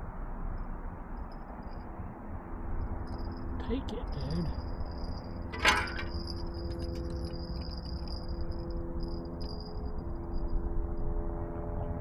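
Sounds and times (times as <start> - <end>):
faint steady hum: 0.0 - 12.0
high whine: 1.2 - 12.0.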